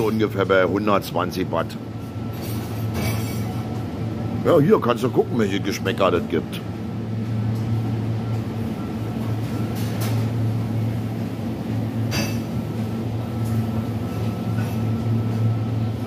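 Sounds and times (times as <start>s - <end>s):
electrical hum of appliances: 0.0s - 16.0s.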